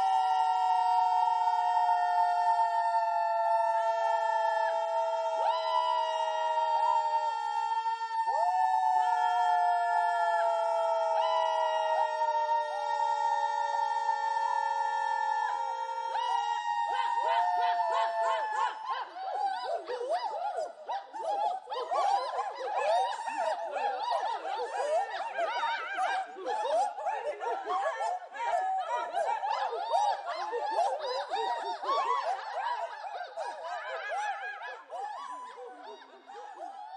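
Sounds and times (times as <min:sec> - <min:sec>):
group scream-singing: 0:00.0 - 0:36.9.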